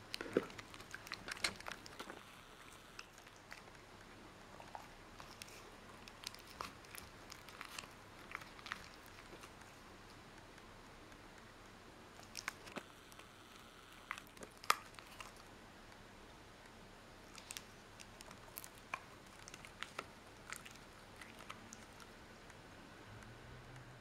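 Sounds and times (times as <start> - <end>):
dog gnawing rawhide bone: 0.0 - 10.6, 11.4 - 15.5, 17.2 - 22.6.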